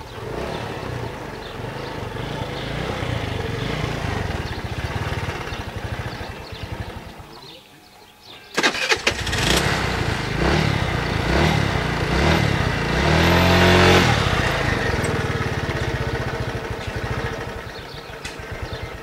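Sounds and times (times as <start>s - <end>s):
scooter engine revving: 0.0s - 7.5s, 8.6s - 19.0s.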